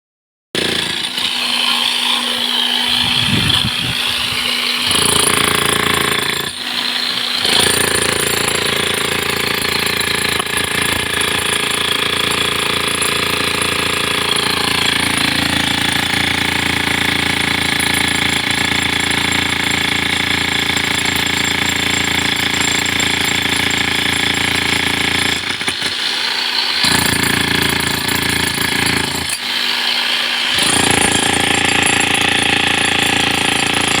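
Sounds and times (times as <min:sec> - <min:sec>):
power tool on concrete: 0:00.6 - 0:34.0.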